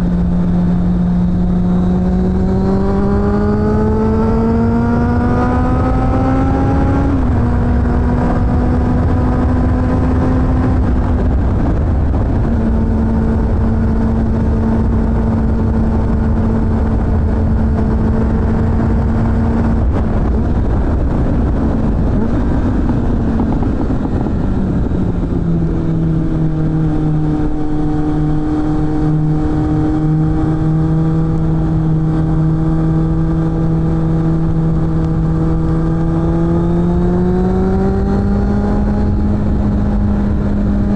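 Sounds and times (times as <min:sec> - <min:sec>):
motorcycle engine revving: 0:00.0 - 0:40.9
wind noise: 0:00.0 - 0:40.9.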